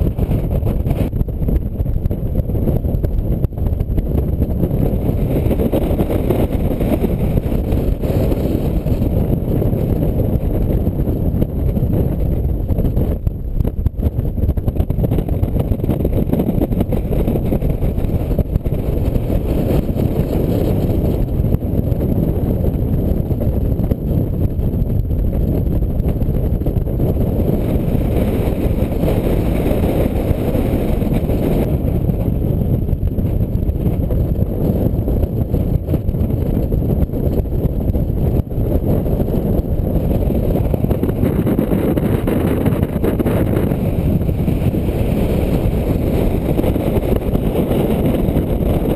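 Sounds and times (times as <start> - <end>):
wind blasting on microphone: 0.0 - 48.9.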